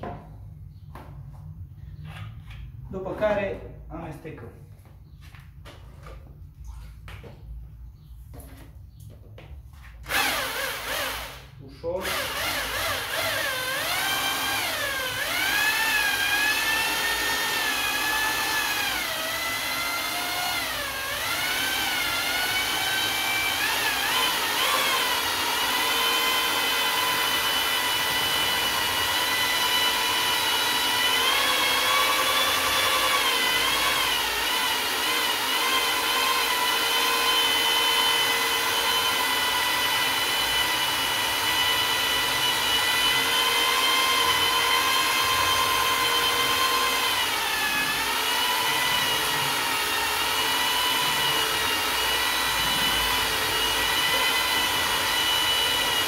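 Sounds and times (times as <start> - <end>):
electric drill motor whine: 10.0 - 56.0.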